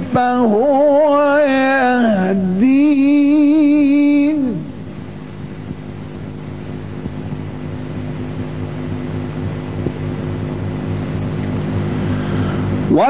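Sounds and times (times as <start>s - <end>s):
low droning hum: 0.0s - 13.0s.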